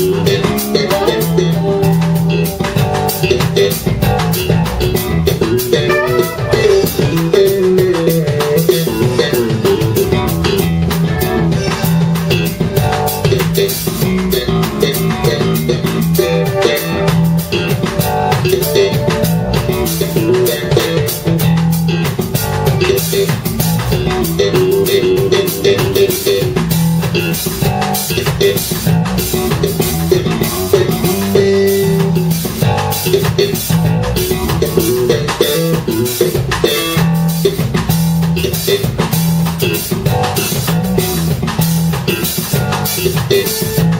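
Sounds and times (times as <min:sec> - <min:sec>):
drum kit beat: 0:00.0 - 0:43.9
electric bass: 0:00.0 - 0:43.9
guitar: 0:00.0 - 0:43.9.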